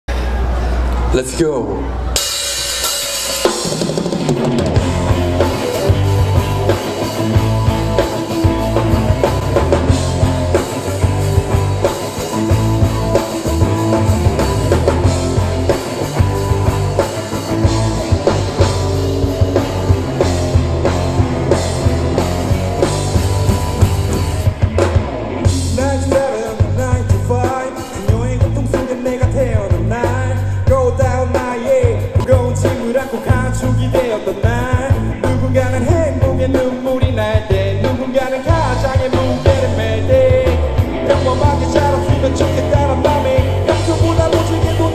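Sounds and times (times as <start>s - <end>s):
live rock band playing: 1.9s - 44.9s.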